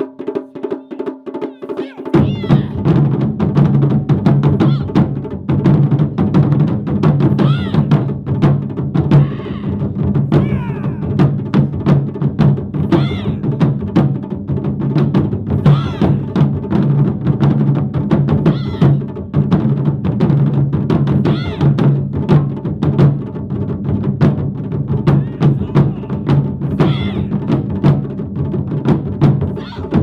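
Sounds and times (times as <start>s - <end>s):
taiko drums playing fast: 0.0s - 30.0s.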